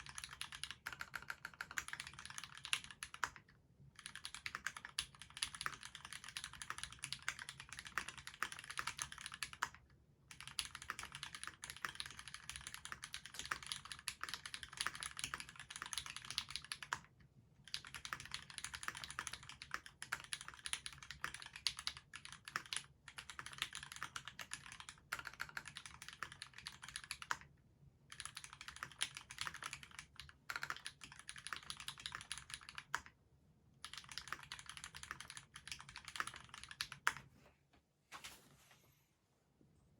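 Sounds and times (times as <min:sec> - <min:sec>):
fast typing on mechanical keyboard: 0:00.0 - 0:27.5, 0:28.1 - 0:33.2, 0:33.8 - 0:37.2.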